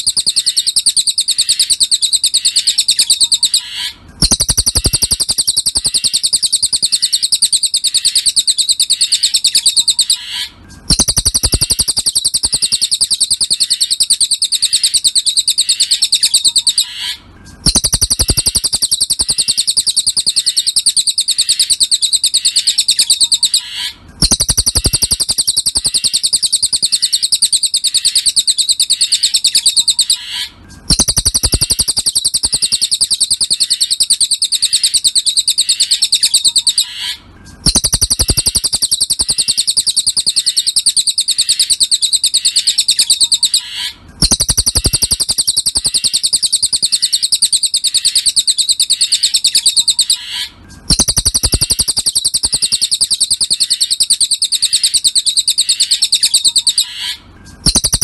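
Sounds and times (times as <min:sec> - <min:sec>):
bird trilling song: 0:00.0 - 0:58.0.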